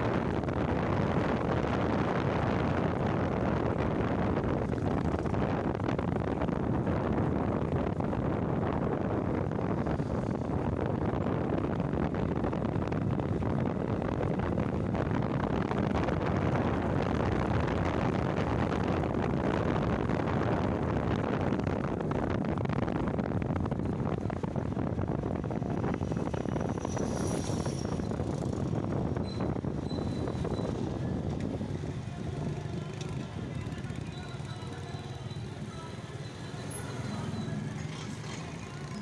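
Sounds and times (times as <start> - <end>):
motorcycle road noise: 0.0 - 39.0
wind buffeting microphone: 0.0 - 39.0.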